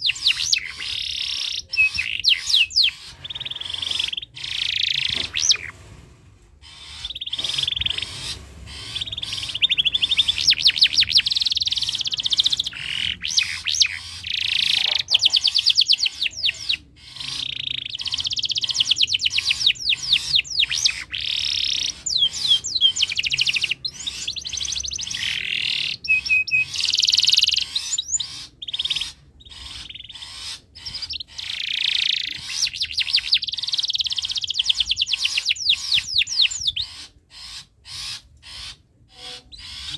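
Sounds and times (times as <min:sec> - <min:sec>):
canary singing trills: 0:00.0 - 0:05.7, 0:06.6 - 0:39.9.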